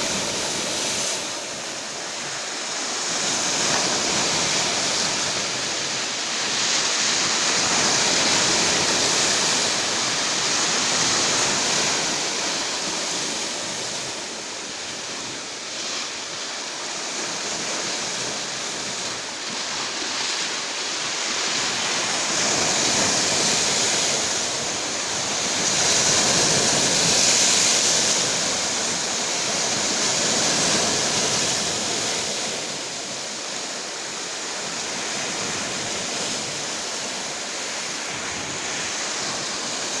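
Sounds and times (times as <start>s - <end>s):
stormy surf breaking on shore: 0.0s - 40.0s.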